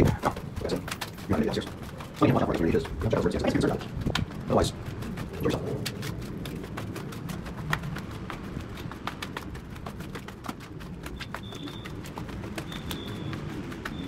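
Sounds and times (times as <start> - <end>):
footsteps on gritty concrete: 0.0 - 14.0.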